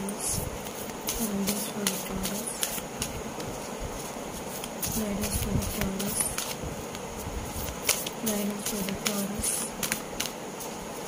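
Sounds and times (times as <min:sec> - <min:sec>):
cards shuffling: 0:00.6 - 0:10.4.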